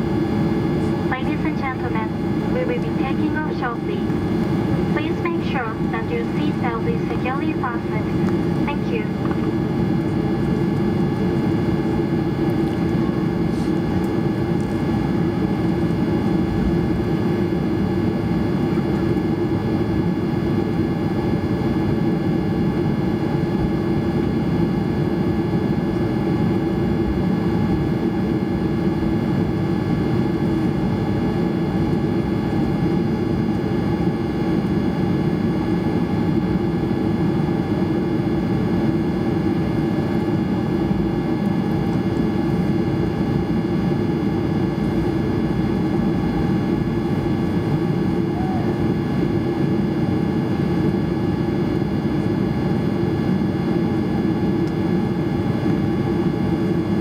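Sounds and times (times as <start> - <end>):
jet engine rumble and whine: 0.0 - 57.0.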